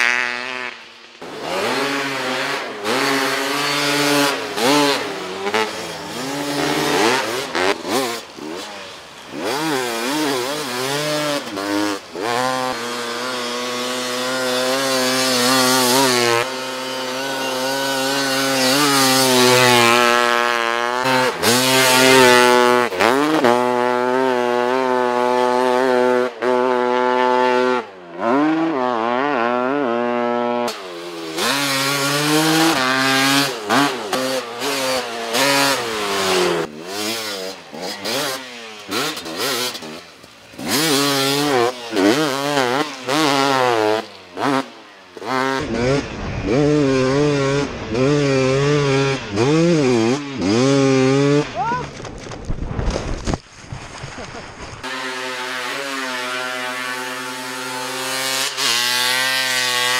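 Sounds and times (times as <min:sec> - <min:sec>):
snow bike engine revving: 0:00.0 - 0:59.9.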